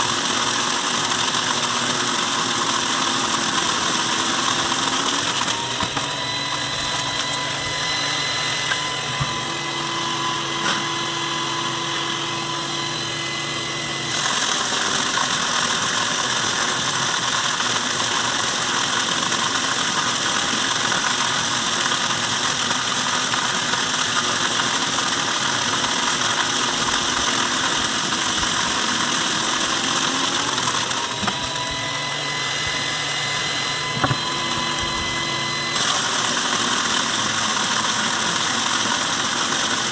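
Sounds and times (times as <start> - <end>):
wood chipper motor whine: 0.0 - 39.9.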